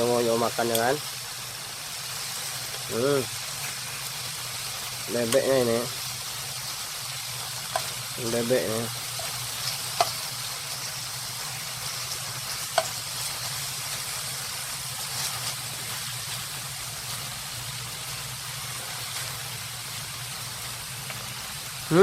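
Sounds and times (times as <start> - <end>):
meat sizzling in a pan: 0.0 - 22.0.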